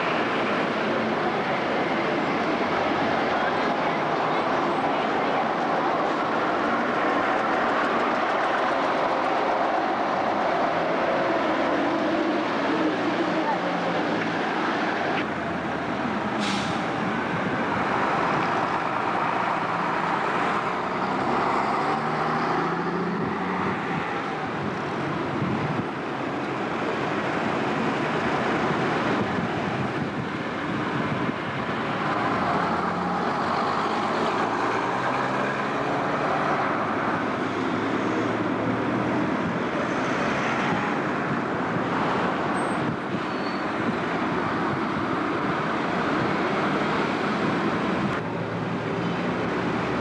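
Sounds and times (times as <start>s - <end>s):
cars and buses passing: 0.0s - 50.0s.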